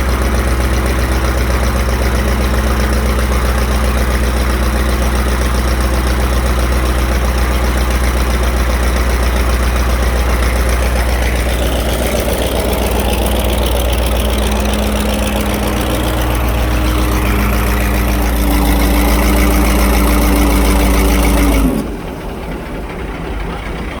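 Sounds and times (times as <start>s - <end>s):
hydraulic pump whine: 0.0s - 23.8s
diesel engine low drone: 0.0s - 24.0s.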